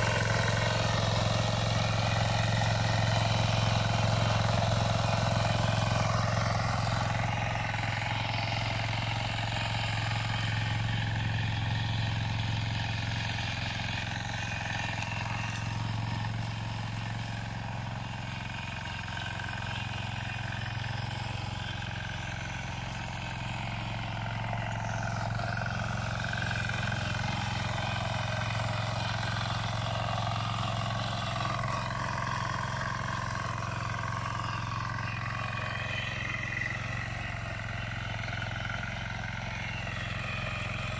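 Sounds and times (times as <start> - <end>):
two-wheel tractor engine running: 0.0 - 40.9.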